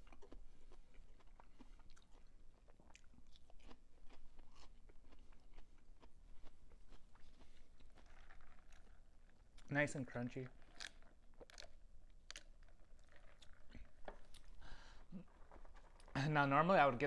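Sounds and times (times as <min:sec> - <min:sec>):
chewing crunchy fried food: 0:00.0 - 0:16.2.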